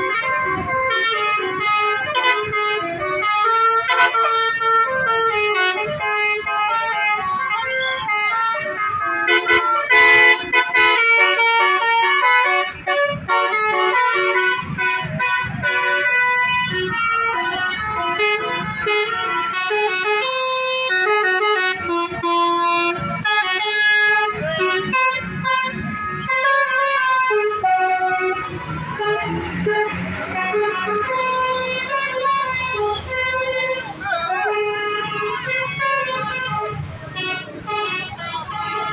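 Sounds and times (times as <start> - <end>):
multi-tone bus horns playing tunes: 0.0 - 38.9.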